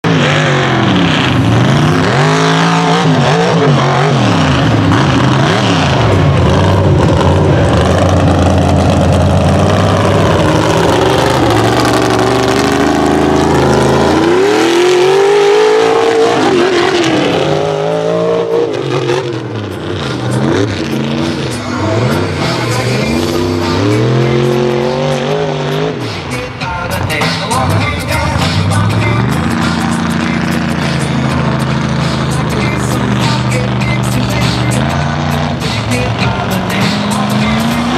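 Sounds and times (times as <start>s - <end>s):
truck engine revving: 0.0s - 37.9s.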